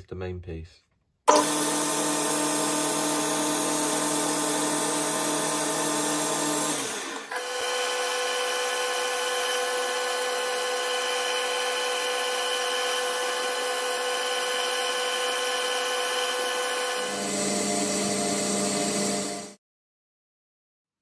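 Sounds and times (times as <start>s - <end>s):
metal lathe whining: 1.3s - 19.4s.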